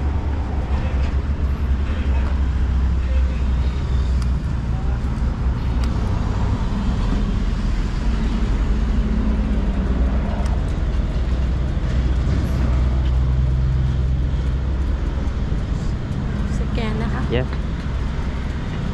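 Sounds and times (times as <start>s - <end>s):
road and wind noise: 0.0s - 18.9s.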